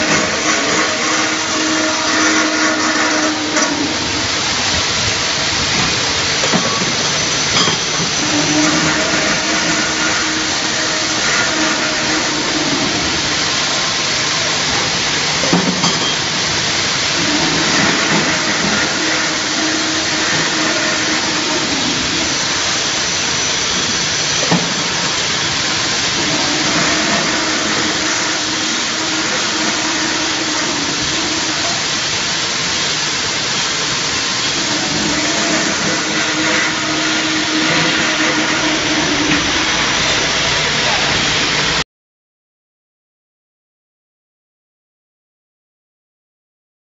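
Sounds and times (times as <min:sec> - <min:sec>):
tube cutting machine running: 0:00.0 - 0:41.8.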